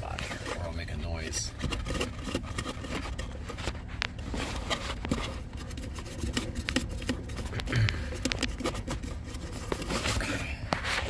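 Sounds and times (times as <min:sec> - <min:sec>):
plastic clicks and scrapes: 0:00.0 - 0:11.0.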